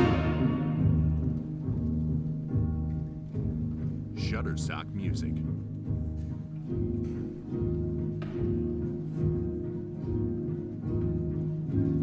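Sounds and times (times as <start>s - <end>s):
orchestral music with low strings: 0.0s - 12.0s.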